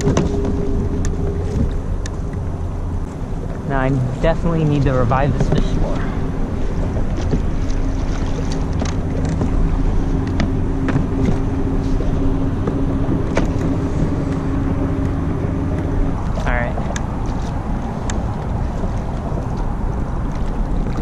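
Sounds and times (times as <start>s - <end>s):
faint engine drone: 0.0s - 21.0s
wind and water rumble: 0.0s - 21.0s.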